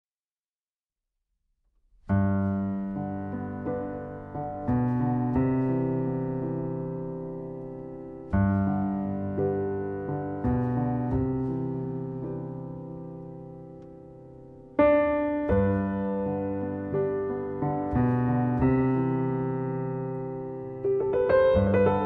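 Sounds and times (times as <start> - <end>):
piano playing slow chords: 2.1 - 22.0.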